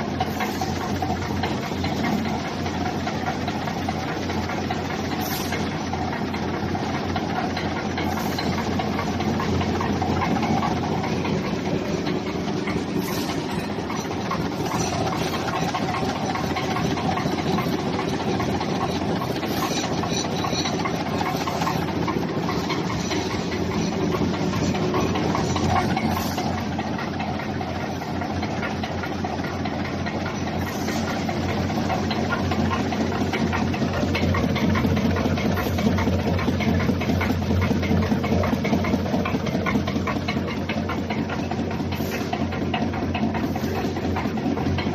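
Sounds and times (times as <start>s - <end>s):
machine humming: 0.0s - 44.9s.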